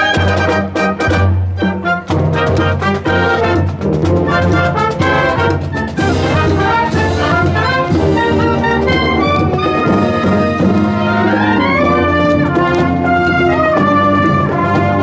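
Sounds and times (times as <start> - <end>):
brass band playing a march: 0.0 - 15.0.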